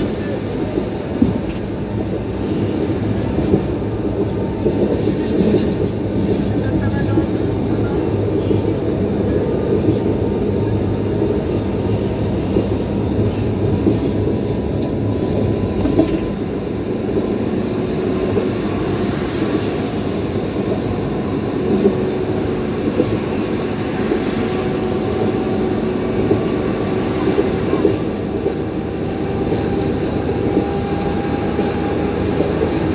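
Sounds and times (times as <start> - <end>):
tram rumbling on rails: 0.0 - 32.9.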